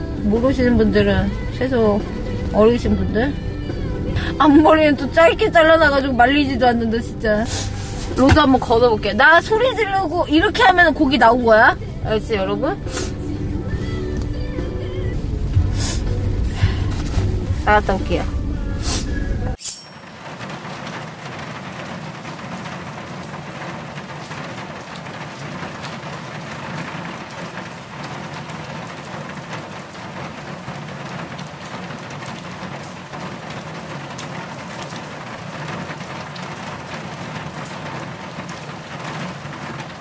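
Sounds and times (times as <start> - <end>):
rain pattering on car: 0.0 - 18.6, 19.4 - 40.0.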